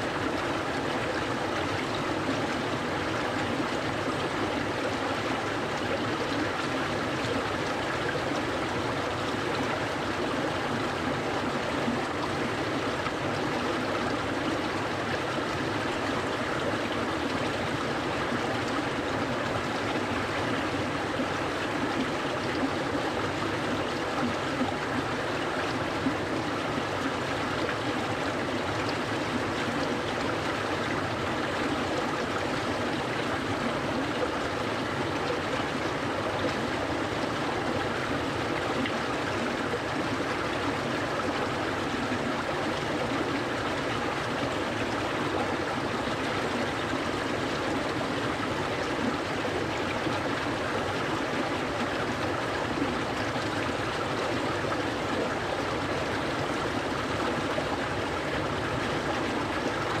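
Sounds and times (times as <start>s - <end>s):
stream flowing over rocks: 0.0s - 60.0s.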